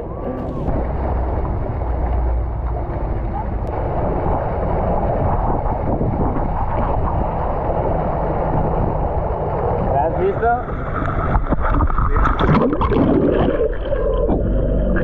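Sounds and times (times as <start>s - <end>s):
boat engine rumbling: 0.0s - 15.0s
rushing water: 0.0s - 15.0s
wind buffeting microphone: 0.0s - 15.0s.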